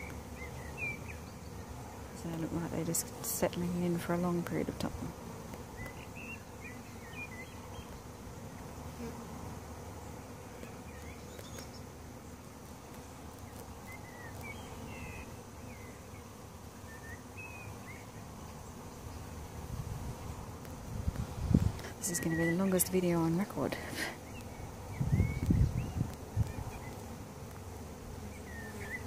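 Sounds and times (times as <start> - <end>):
bee swarm humming: 0.0 - 29.0.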